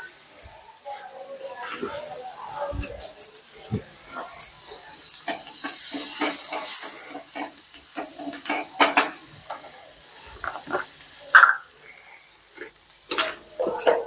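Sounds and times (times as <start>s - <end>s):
garlic sizzling in hot oil: 0.0s - 14.0s
spoon stirring and scraping pan: 1.5s - 14.0s.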